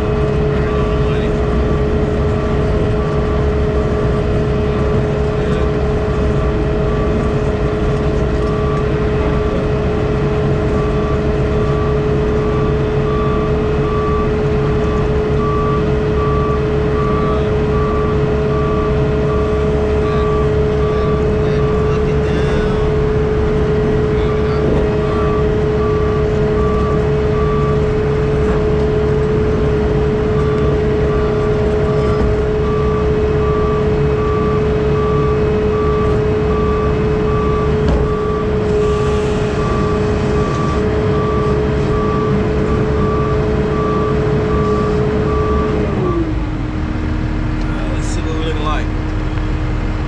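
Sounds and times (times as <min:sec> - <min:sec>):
backup alarm beeping: 0:00.0 - 0:46.2
heavy equipment engine whining: 0:00.0 - 0:50.0.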